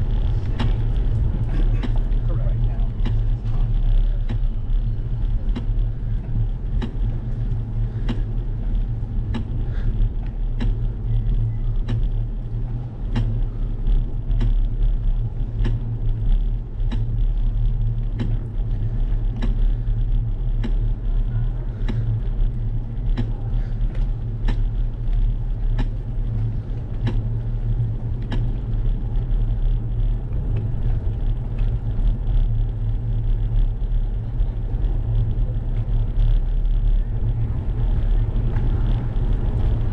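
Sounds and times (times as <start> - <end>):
bicycle rumbling on pavement: 0.0 - 39.9.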